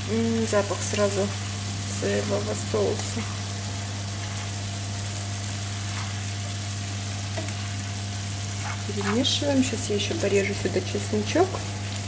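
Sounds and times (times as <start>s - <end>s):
noodles sizzling in frying pan: 0.0s - 12.0s.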